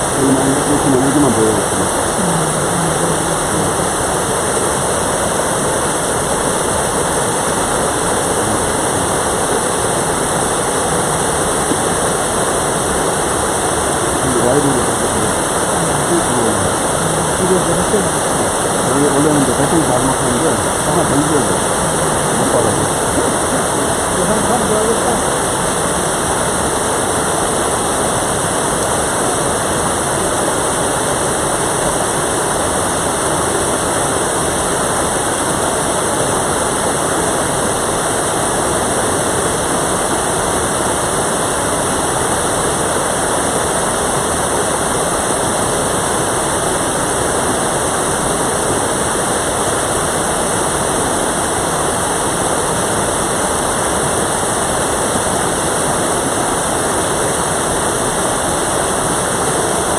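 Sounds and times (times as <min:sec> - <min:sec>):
stream rushing: 0:00.0 - 0:59.9.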